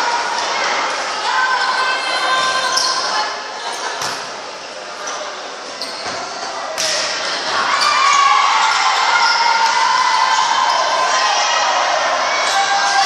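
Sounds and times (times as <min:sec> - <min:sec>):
spectators chattering and shouting: 0:00.0 - 0:13.0.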